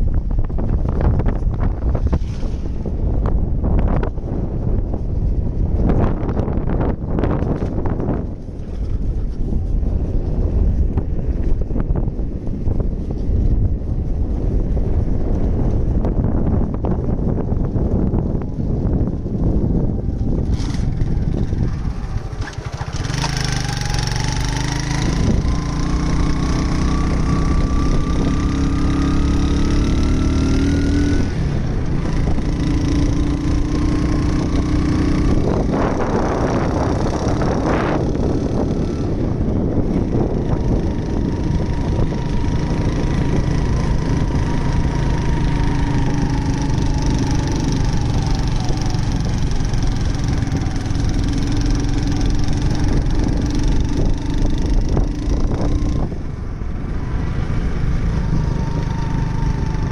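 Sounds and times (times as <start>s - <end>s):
vehicle engine accelerating: 0.0s - 59.9s.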